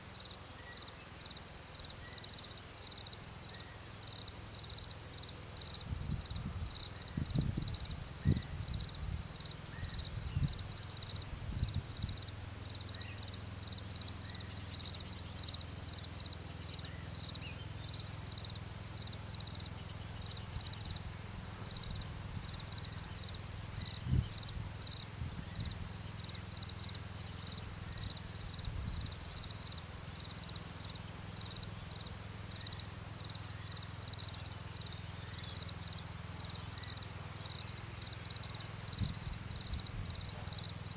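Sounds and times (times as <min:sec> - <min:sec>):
high-pitched insect chorus: 0:00.1 - 0:40.9.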